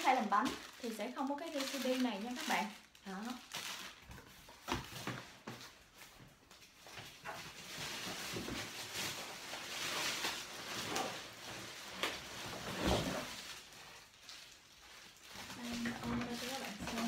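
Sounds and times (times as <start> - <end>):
plastic wrapping rustling: 0.0 - 17.0.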